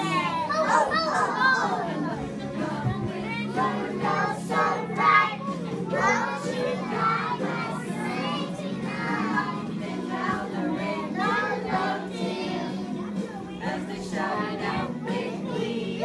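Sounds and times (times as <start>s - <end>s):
children singing together: 0.0s - 16.0s
music playing: 0.0s - 16.0s.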